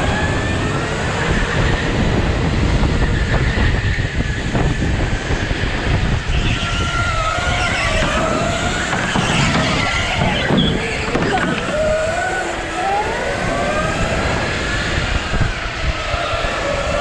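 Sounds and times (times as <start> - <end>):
go-kart motor whine: 0.0 - 17.0.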